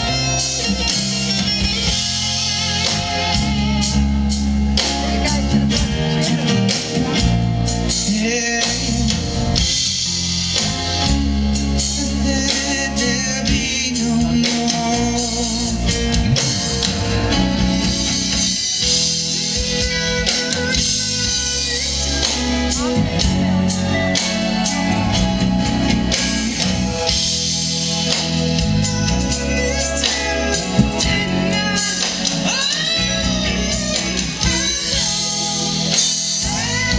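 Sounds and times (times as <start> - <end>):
person singing: 0.0 - 9.8, 11.7 - 16.5, 18.5 - 25.2, 28.0 - 36.9
bass guitar: 0.0 - 36.9
drums: 0.0 - 36.9
electric guitar: 0.0 - 36.9.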